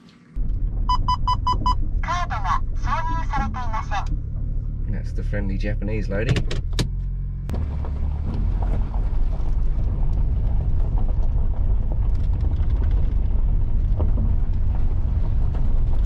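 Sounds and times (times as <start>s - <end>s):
car rumble inside cabin: 0.4s - 16.0s.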